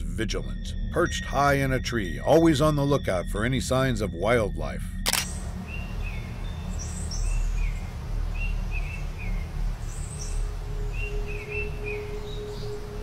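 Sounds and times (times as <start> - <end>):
songbirds chirping: 0.0 - 4.4, 5.3 - 13.0
faint steady hum: 0.0 - 13.0.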